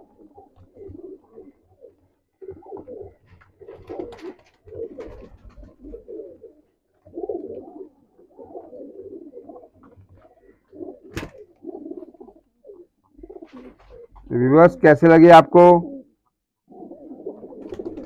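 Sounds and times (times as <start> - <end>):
pigeons cooing: 0.0 - 14.3, 15.7 - 18.0.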